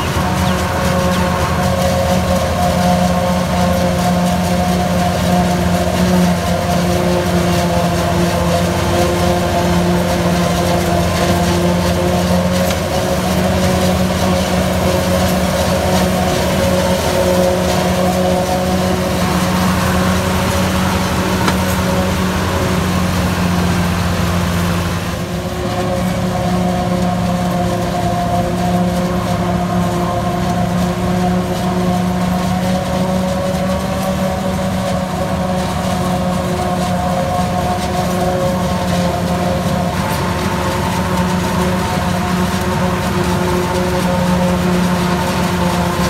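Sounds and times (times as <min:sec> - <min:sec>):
harvester and tractor machinery hum: 0:00.0 - 0:46.0.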